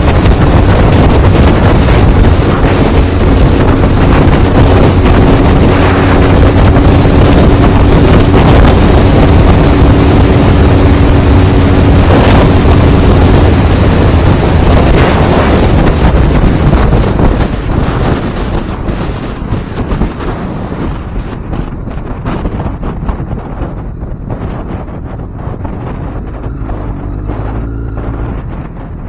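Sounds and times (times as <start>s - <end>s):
motorcycle engine droning: 0.0s - 29.0s
wind rush on microphone: 0.0s - 29.0s.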